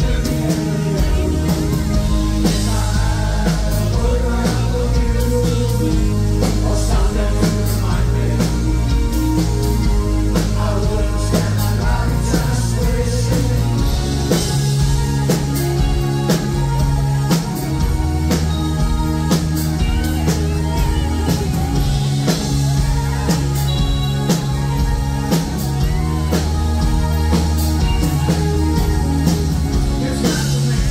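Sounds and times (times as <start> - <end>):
bass line: 0.0 - 30.9
drum kit beat: 0.0 - 30.9
electric guitars: 0.0 - 30.9
synthesizer: 0.0 - 30.9.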